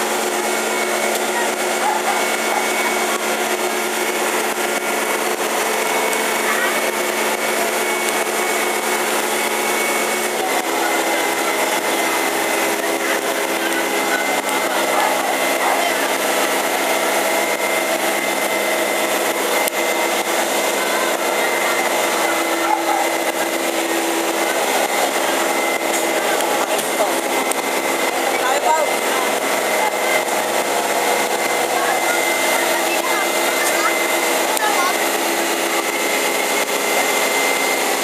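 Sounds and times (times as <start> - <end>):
water pump whining: 0.0 - 38.0.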